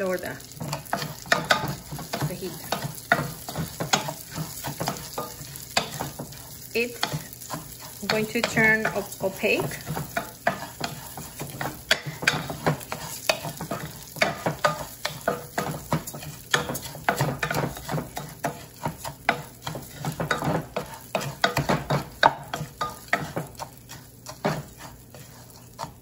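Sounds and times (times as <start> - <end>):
oil sizzling: 0.0 - 26.0
wooden spoon scraping pot: 0.1 - 26.0.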